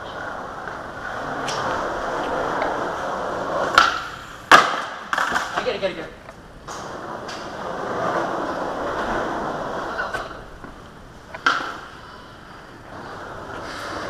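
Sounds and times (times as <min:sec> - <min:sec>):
skateboard clack: 0:00.0 - 0:14.0
skateboard wheels rolling on concrete: 0:00.0 - 0:14.0.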